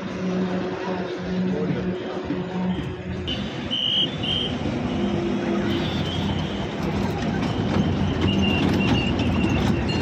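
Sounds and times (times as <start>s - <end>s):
ride train rumbling: 0.0s - 10.0s.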